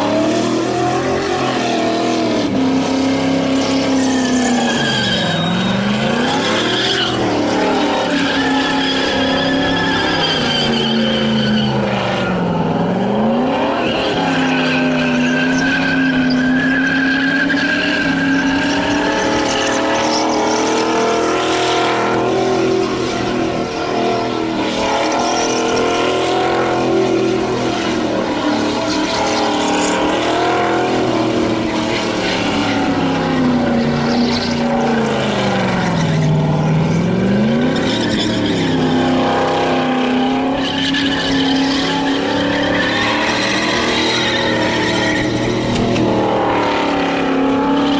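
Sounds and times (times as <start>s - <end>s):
car engine revving high: 0.0s - 47.9s
tyres squealing: 0.7s - 46.2s.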